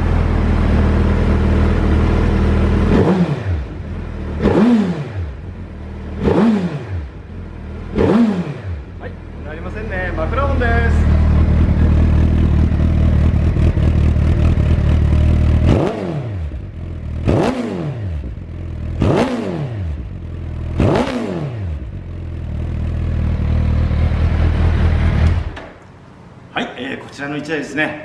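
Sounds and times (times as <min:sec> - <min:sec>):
motorcycle engine idling and revving: 0:00.0 - 0:26.6.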